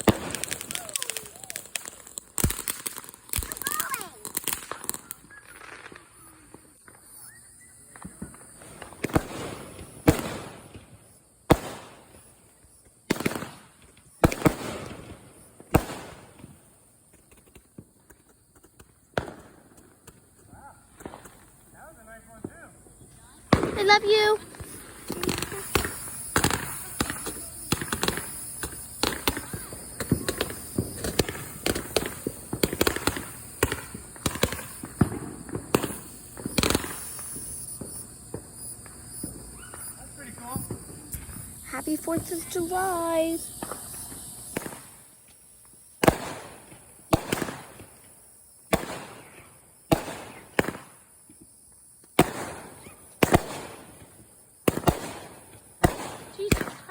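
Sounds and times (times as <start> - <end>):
fireworks bangs: 0.0 - 56.9.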